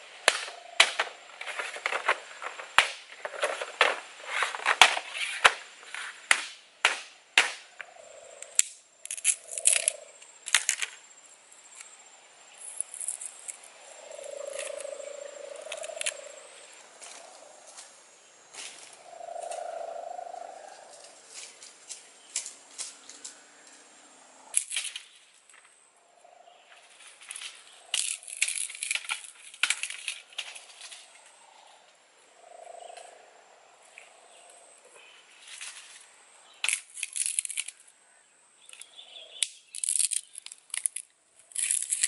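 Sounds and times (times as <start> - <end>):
dry bamboo and grass crackling: 0.0 - 31.7, 33.9 - 38.0, 38.6 - 42.0.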